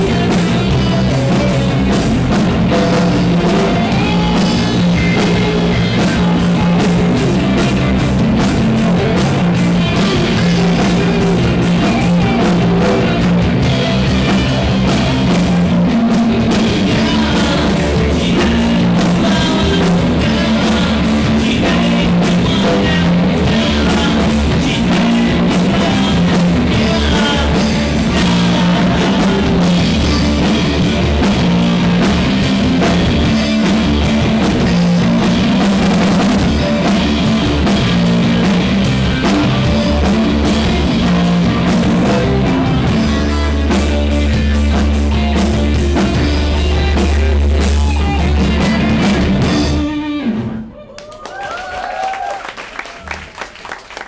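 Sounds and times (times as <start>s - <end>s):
drum kit: 0.0s - 50.7s
bass guitar: 0.0s - 54.0s
electric guitar: 0.0s - 54.0s.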